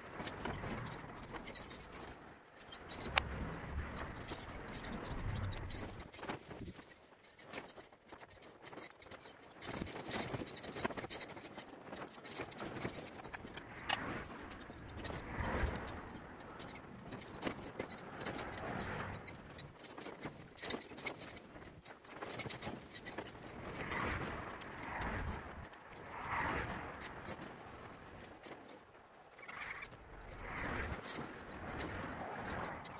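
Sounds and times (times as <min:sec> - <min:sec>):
light metal clicks and scrapes: 0:00.0 - 0:32.9
soft rustles: 0:00.0 - 0:32.9.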